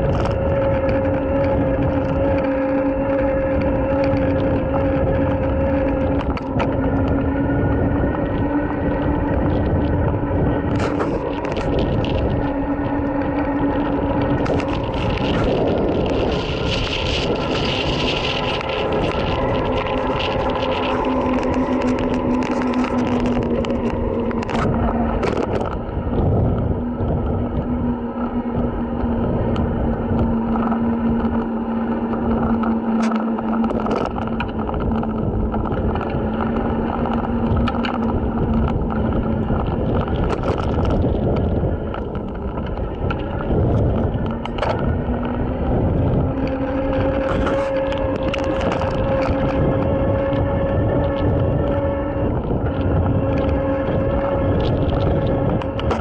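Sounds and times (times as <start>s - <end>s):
camera rattling: 0.0s - 56.0s
electric motor whine: 0.0s - 56.0s
tyre rumble on pavement: 0.0s - 56.0s
wind: 0.0s - 56.0s.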